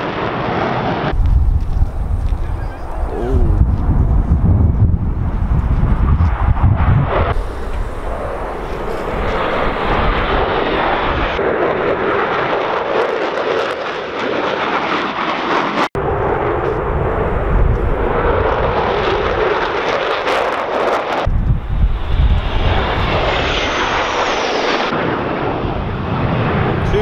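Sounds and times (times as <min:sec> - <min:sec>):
jet aircraft flying past: 0:00.0 - 0:27.0.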